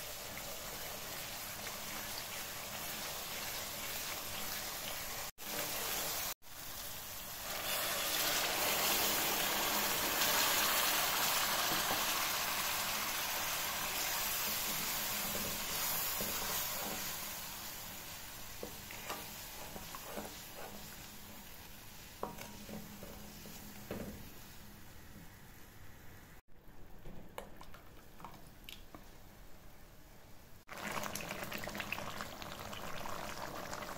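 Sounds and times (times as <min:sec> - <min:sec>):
food sizzling in a pan: 0:00.0 - 0:26.0, 0:30.6 - 0:33.9.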